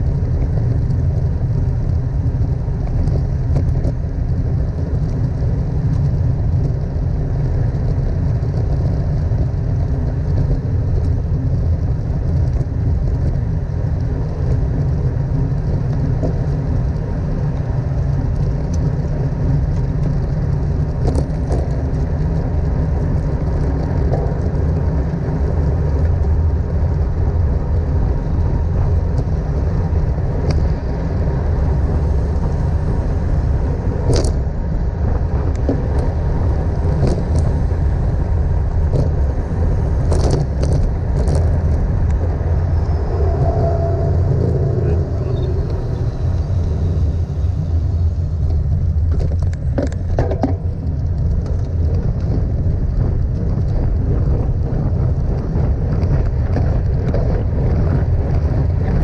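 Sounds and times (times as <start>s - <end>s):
bicycle road noise rumble: 0.0s - 59.0s
wind buffeting microphone: 0.0s - 59.0s.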